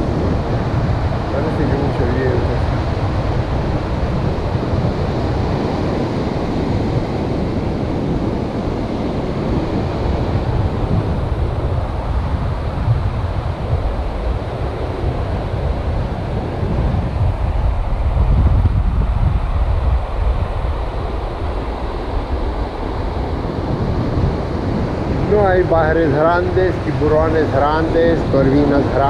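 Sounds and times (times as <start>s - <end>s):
sea surf breaking: 0.0s - 29.0s
wind buffeting microphone: 0.0s - 29.0s.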